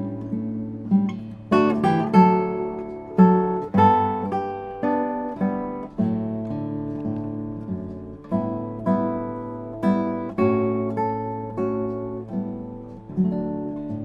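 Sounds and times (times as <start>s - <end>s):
acoustic guitar plucked chords: 0.0s - 14.0s.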